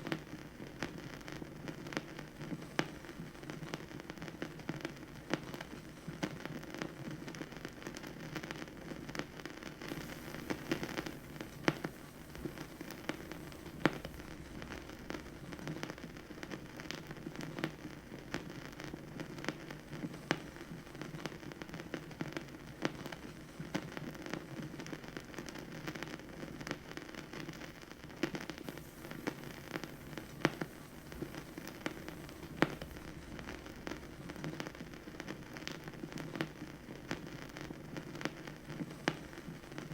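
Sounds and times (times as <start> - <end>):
vinyl record crackle and hiss: 0.0 - 39.9
vinyl record pops: 0.0 - 39.9.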